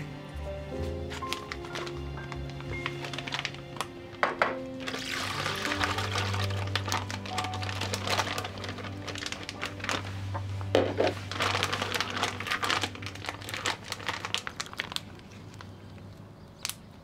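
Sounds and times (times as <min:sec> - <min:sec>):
plastic bag crinkling: 0:01.0 - 0:16.1.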